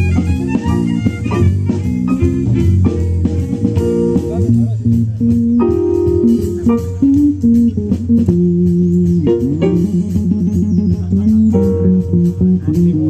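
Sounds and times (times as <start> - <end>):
jazz combo playing swing blues: 0.0 - 13.0
walking bass line: 0.0 - 13.0.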